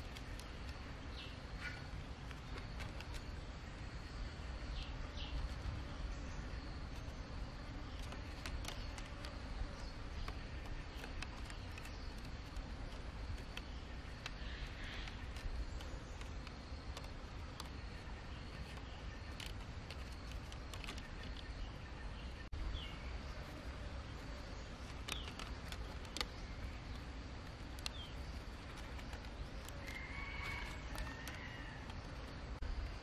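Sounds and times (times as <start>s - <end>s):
bamboo strips clicking and rustling: 0.0s - 3.4s, 6.9s - 21.6s, 24.3s - 33.0s
bird chirps: 0.0s - 33.0s.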